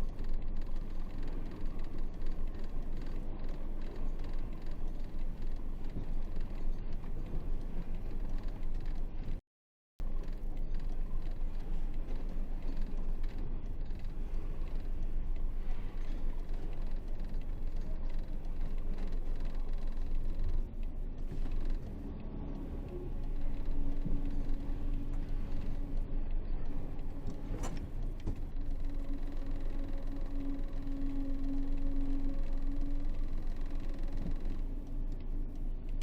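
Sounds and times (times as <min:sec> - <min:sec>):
steady droning hum: 0:00.0 - 0:09.4, 0:10.0 - 0:36.0.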